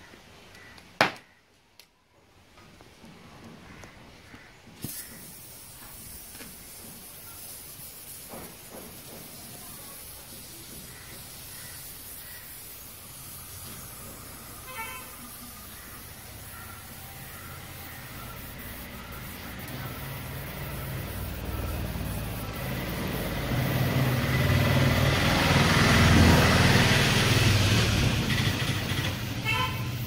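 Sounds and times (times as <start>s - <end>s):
gas torch hissing: 4.8s - 30.0s.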